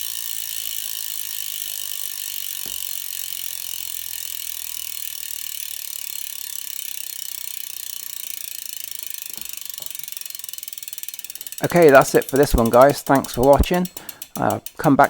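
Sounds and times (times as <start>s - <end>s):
bicycle freehub ratcheting: 0.0s - 15.0s.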